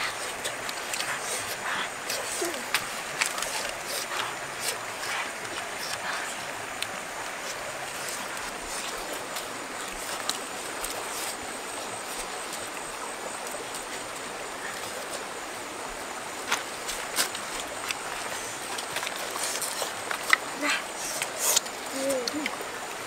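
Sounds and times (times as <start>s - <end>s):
stream water running: 0.0s - 23.0s.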